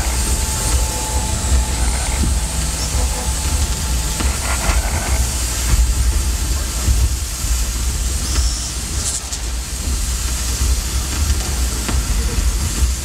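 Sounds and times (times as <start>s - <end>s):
deep steady rumble: 0.0s - 13.0s
hiss: 0.0s - 13.0s.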